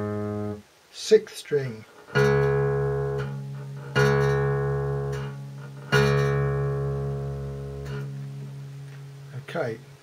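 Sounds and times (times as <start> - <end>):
low guitar string plucked: 2.0 - 10.0.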